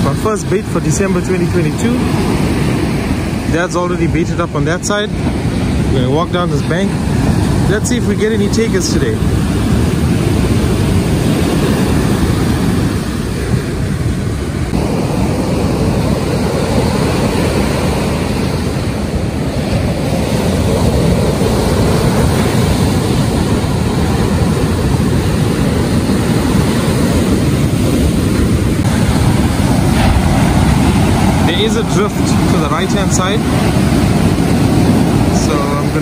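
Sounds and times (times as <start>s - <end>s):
rough surf breaking: 0.0s - 36.0s
wind buffeting microphone: 0.0s - 36.0s.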